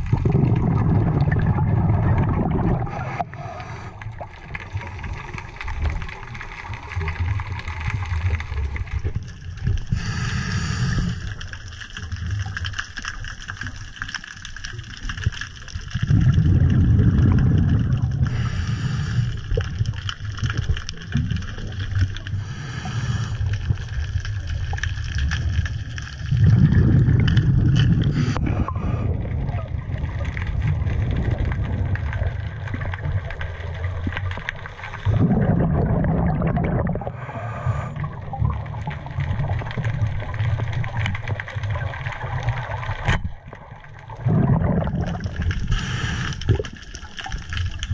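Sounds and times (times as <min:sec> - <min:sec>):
underwater bubble exhalations: 0:00.0 - 0:12.7, 0:14.9 - 0:47.9.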